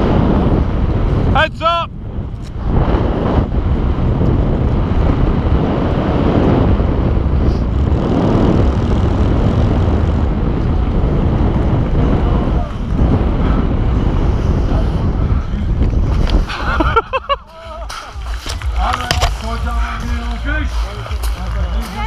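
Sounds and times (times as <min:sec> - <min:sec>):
wind rush buffeting microphone: 0:00.0 - 0:22.0.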